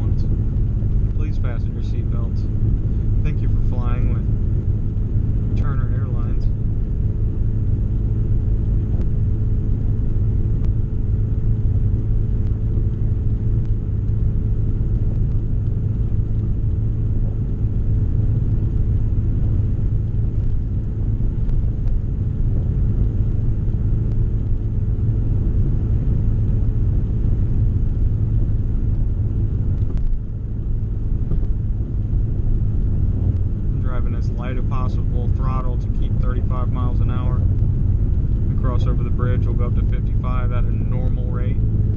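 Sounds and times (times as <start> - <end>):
car engine drone: 0.0 - 41.9
road noise: 0.0 - 41.9.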